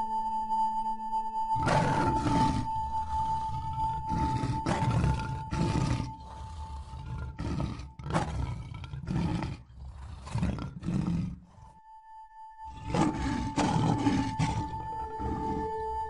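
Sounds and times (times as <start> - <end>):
steady high tone: 0.0 - 8.2, 10.4 - 16.0
big cats roaring: 1.6 - 11.8, 12.7 - 16.0.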